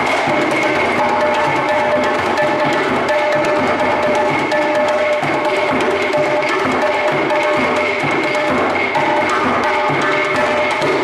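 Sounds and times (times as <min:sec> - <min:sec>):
skin drums played fast: 0:00.0 - 0:11.0.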